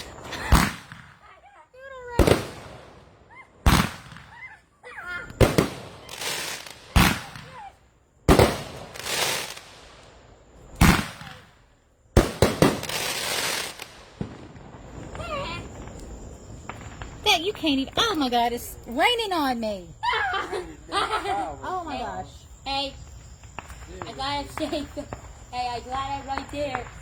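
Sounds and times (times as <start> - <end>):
fireworks bangs: 0.0 - 20.0, 20.8 - 27.0
fireworks crackling: 0.0 - 20.0, 20.6 - 27.0.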